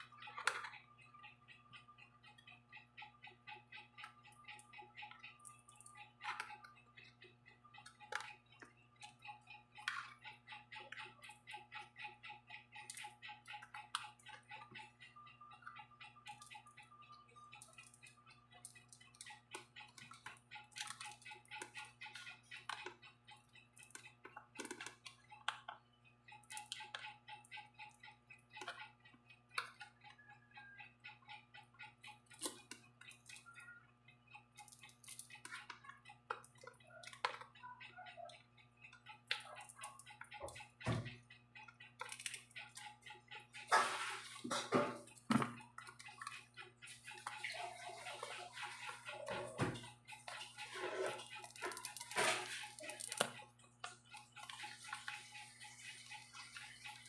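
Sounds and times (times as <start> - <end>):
small clicks and taps: 0.0 - 57.0.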